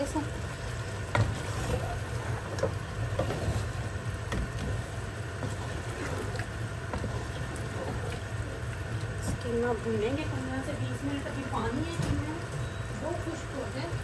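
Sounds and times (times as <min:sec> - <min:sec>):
steady low hum: 0:00.0 - 0:14.0
wooden spoon stirring in pot: 0:00.0 - 0:14.0.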